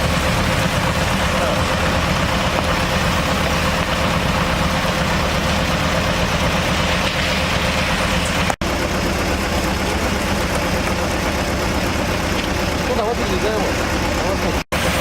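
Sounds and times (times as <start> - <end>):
heavy machinery engine idling: 0.0 - 15.0.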